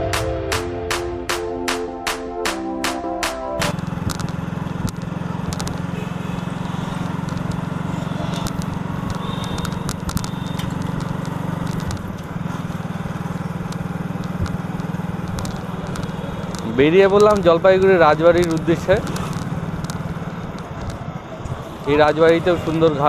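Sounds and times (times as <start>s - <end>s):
road noise: 0.0s - 23.0s
motorcycle engine cruising: 3.6s - 23.0s.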